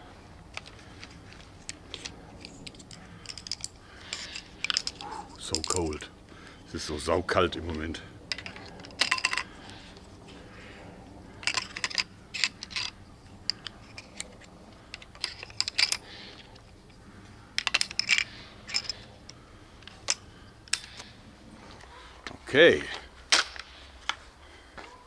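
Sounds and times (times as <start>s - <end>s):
crossbow bolts clicking and rattling: 0.4s - 6.4s, 7.6s - 22.0s.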